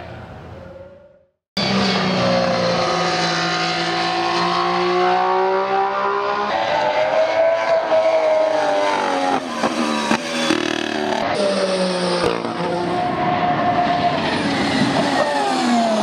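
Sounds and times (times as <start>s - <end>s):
racing car engine: 0.7s - 16.0s
racing car engine at high revs: 1.6s - 16.0s.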